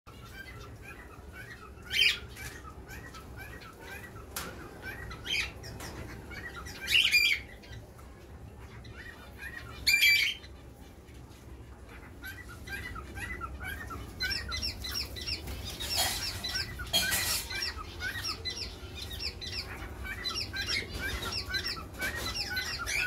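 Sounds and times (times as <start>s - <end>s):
loud bird calls: 0.1s - 10.9s, 11.8s - 23.0s
cage birds chirping: 0.1s - 23.0s.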